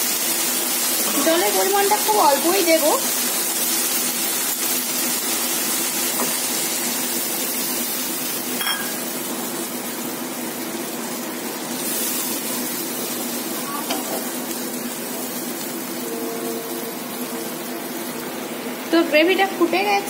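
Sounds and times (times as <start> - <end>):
masala sizzling in oil: 0.0 - 20.0.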